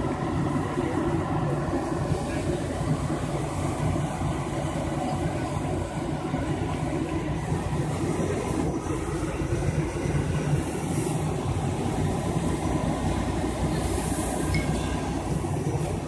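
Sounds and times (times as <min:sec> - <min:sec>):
diesel engine at high revs: 0:00.0 - 0:16.0.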